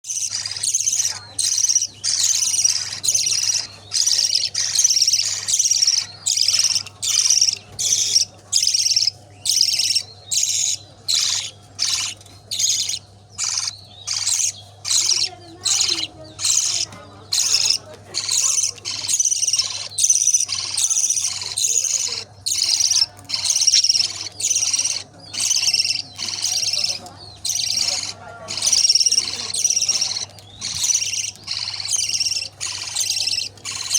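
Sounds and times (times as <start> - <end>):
budgerigar chick cheeping: 0.0 - 33.9.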